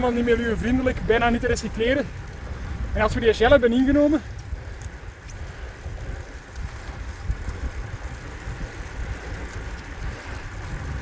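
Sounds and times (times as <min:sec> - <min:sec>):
faint road noise: 0:00.0 - 0:11.0
wind rumbling on microphone: 0:00.0 - 0:11.0.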